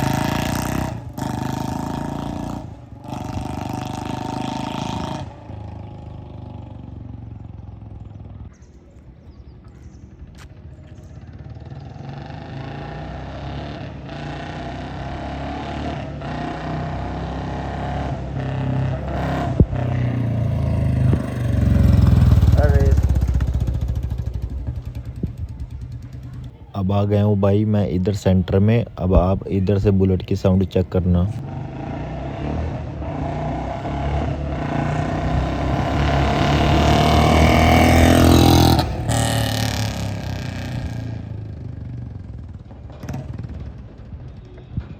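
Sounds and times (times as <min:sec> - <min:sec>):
motorcycle engine running: 0:00.0 - 0:15.4, 0:16.5 - 0:26.9, 0:30.8 - 0:44.8.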